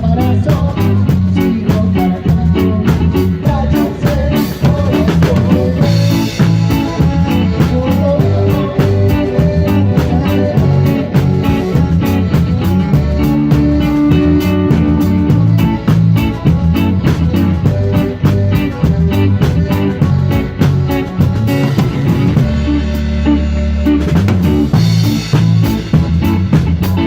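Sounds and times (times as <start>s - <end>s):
bass guitar: 0.0s - 27.0s
drum kit: 0.0s - 27.0s
electric guitar: 0.0s - 27.0s.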